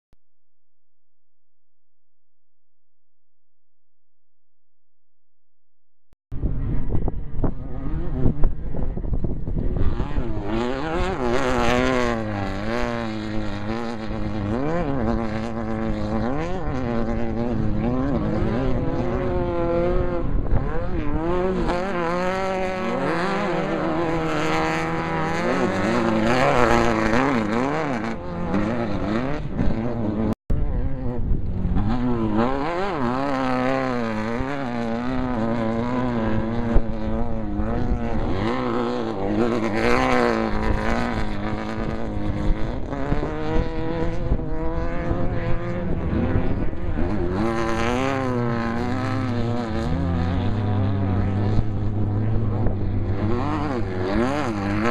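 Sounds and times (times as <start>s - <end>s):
wind and road noise: 6.3s - 54.9s
race vehicle engine revving: 7.0s - 54.9s.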